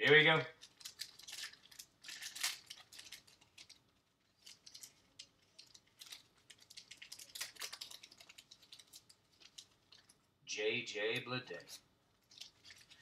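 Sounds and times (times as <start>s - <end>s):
cards rustling: 0.1s - 10.2s, 11.5s - 13.0s
foil wrapper crinkling: 0.2s - 10.2s, 11.6s - 13.0s.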